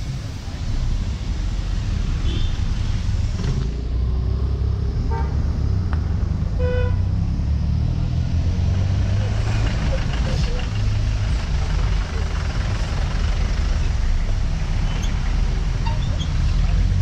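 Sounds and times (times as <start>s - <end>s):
road vehicles rumbling: 0.0s - 17.0s.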